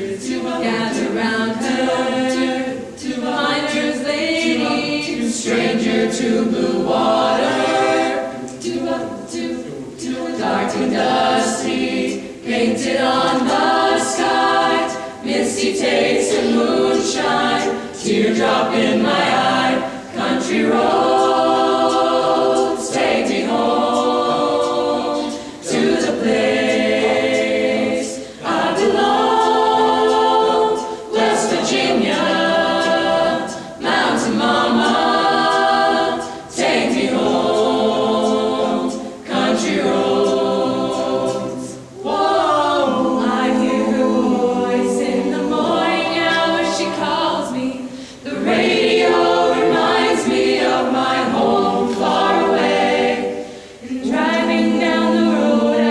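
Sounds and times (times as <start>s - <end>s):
choir singing a cappella: 0.0s - 55.9s.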